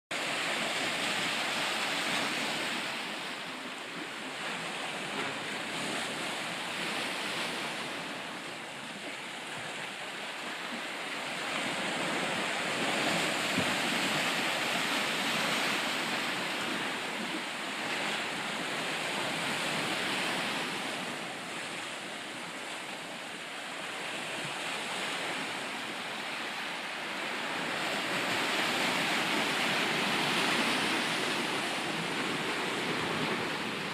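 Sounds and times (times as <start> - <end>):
ocean waves breaking: 0.1 - 33.9.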